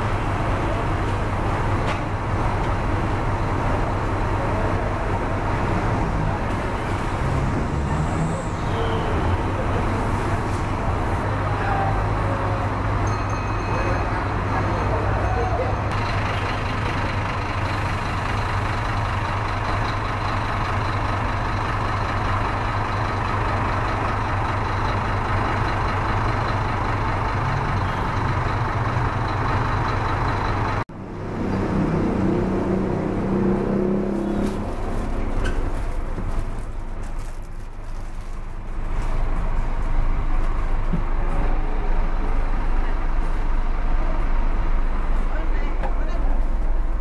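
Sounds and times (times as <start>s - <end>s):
diesel bus engine running: 0.0s - 47.0s.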